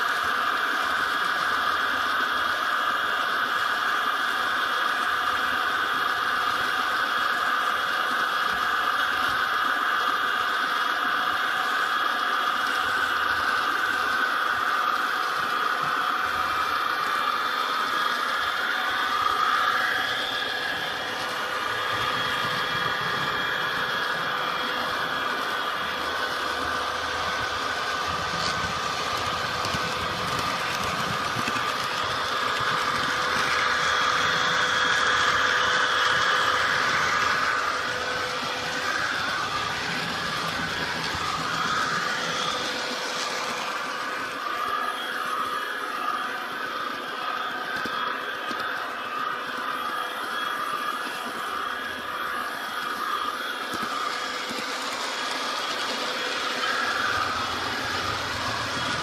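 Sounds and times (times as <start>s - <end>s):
model train running on track: 0.0s - 59.0s.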